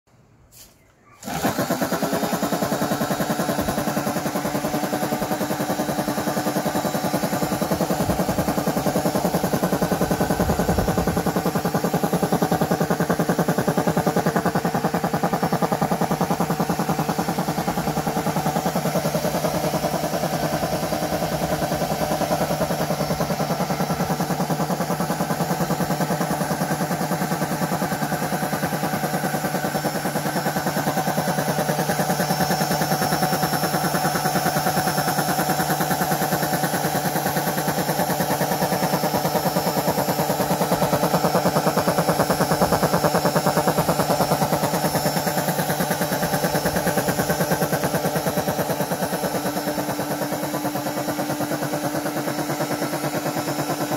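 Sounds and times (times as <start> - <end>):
air compressor pumping: 0.5 - 53.9.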